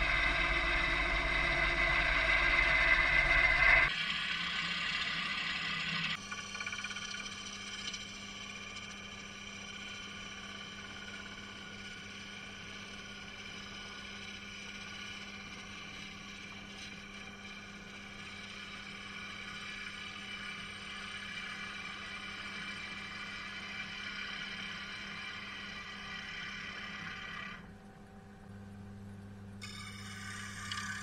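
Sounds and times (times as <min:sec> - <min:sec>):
lathe motor hum: 0:00.0 - 0:27.7.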